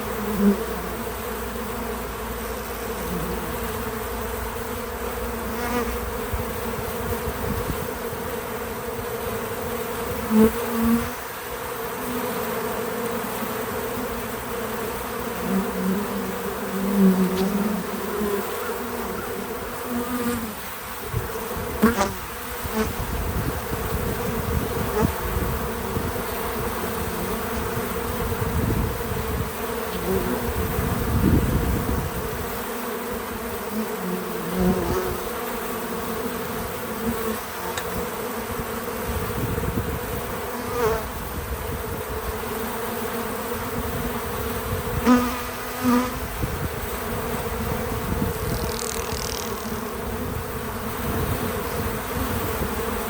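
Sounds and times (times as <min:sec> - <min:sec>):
honeybees buzzing: 0:00.0 - 0:53.0.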